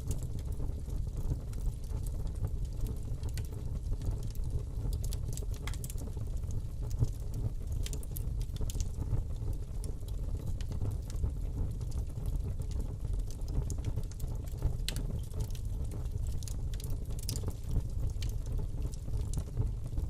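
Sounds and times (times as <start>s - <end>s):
low rumble of flames: 0.0s - 20.0s
wood crackling and popping: 0.0s - 20.0s.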